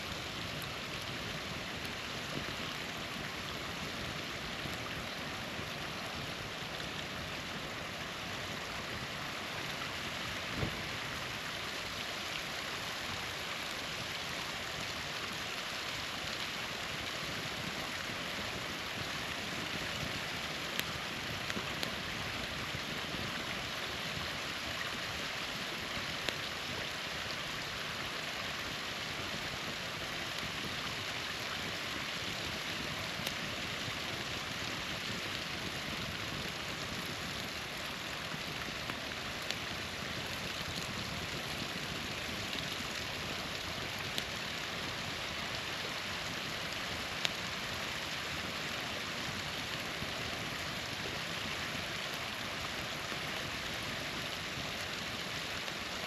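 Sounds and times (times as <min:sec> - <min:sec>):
campfire popping: 0:00.0 - 0:56.0
small waterfall rushing: 0:00.0 - 0:56.0.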